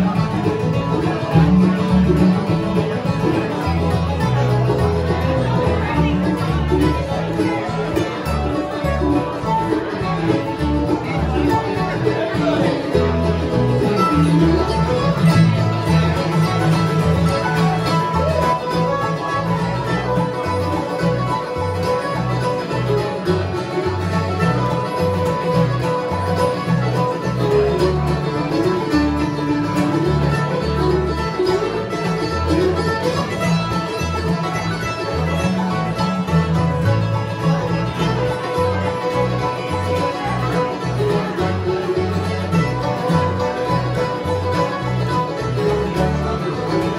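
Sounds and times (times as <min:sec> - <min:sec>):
acoustic guitar: 0:00.0 - 0:46.9
banjo: 0:00.0 - 0:46.9
mandolin: 0:00.0 - 0:46.9
upright bass: 0:00.0 - 0:46.9.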